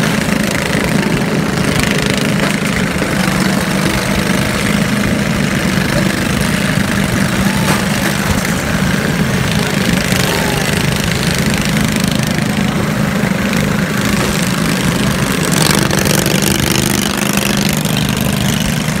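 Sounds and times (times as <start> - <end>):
lawn mower engines humming: 0.0 - 19.0.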